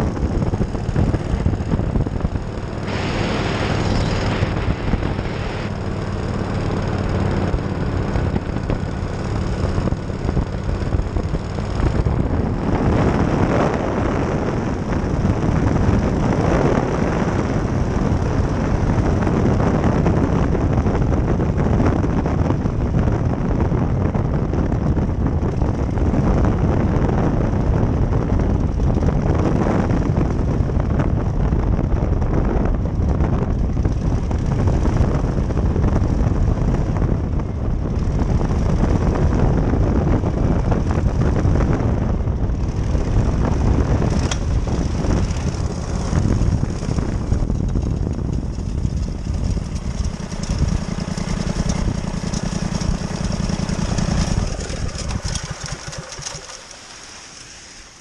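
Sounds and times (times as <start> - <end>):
engine and propeller running: 0.0 - 58.0
wind rushing over microphone: 0.0 - 58.0.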